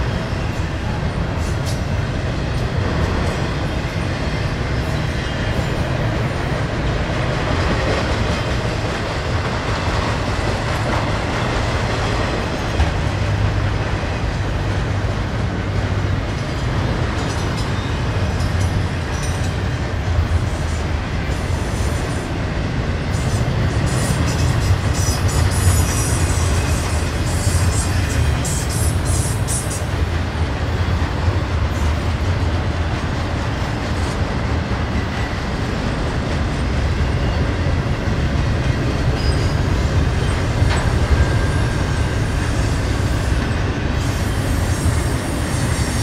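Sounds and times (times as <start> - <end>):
freight train wheels rumbling on rail: 0.0 - 46.0.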